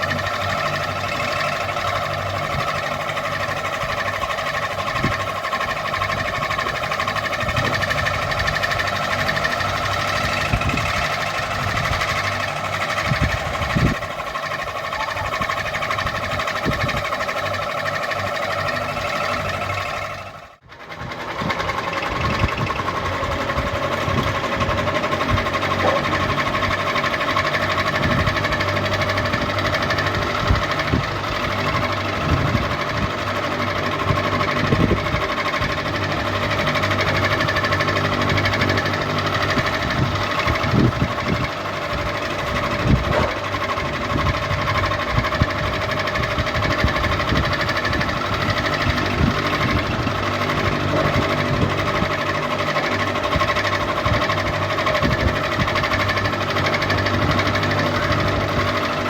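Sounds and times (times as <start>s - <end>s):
fan clicks and rattles: 0.0s - 59.0s.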